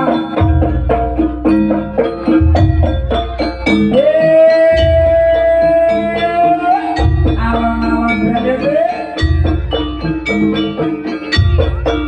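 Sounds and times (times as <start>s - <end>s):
deep drum beats: 0.0s - 12.0s
ringing struck pitched notes: 0.0s - 12.0s.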